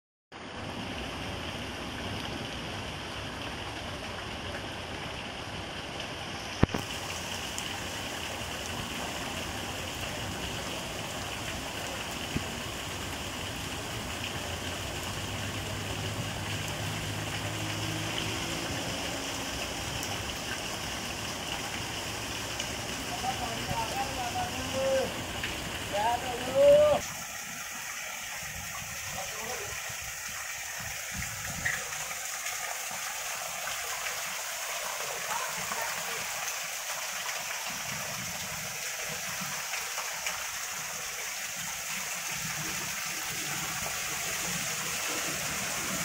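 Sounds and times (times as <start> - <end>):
heavy rain on standing water: 0.3 - 46.0.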